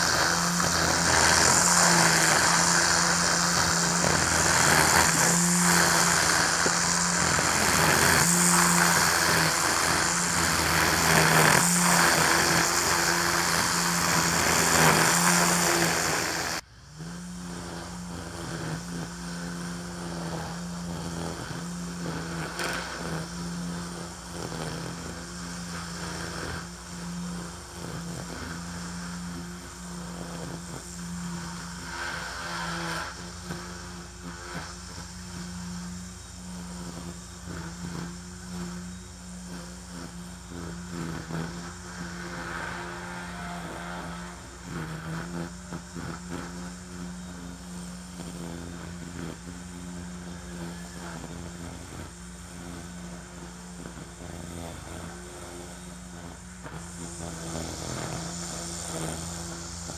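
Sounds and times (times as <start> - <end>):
string trimmer whining: 0.0 - 59.9.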